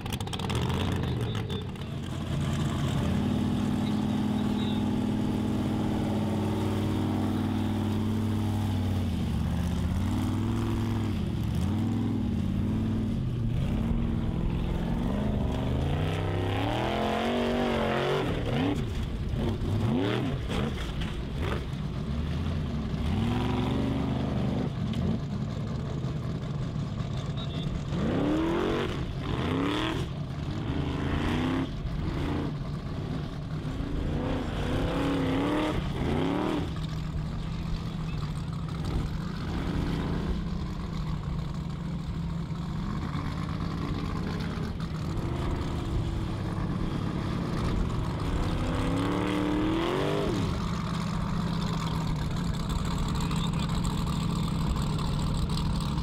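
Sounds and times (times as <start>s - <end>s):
buggy engine revving hard: 0.0s - 25.4s, 27.8s - 41.2s, 42.9s - 56.0s.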